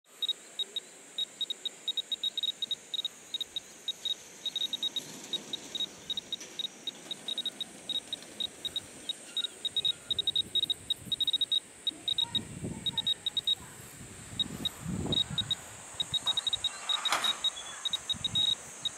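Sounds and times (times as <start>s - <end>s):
radiation monitor beeping: 0.1s - 13.7s, 14.4s - 18.9s
steady high hiss: 0.1s - 18.9s.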